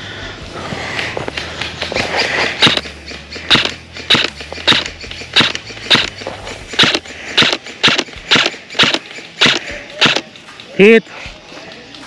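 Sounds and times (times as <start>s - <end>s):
footsteps crunching: 0.4s - 12.0s.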